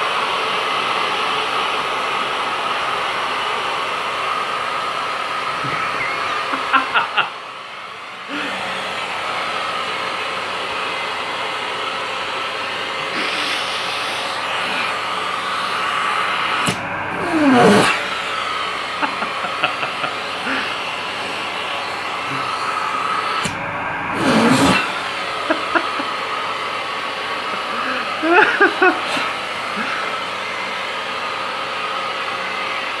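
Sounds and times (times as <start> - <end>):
vacuum cleaner whining: 0.0 - 33.0.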